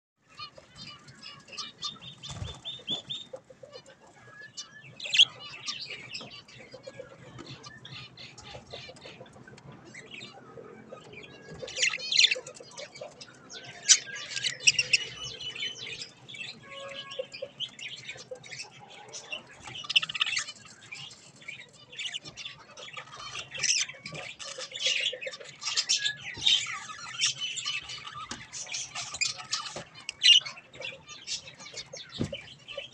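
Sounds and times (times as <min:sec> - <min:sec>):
budgerigars chirping and squawking: 0:00.2 - 0:32.9.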